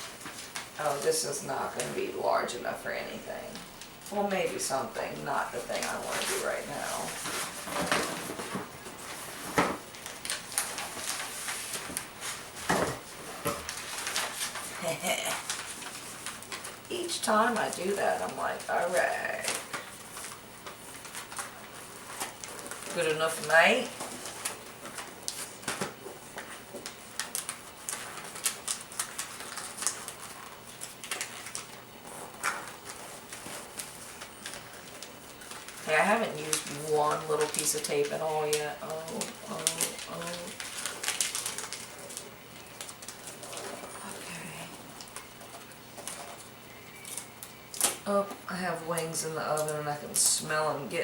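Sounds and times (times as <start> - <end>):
wrapping paper rustling: 0.0 - 48.3, 49.0 - 50.5.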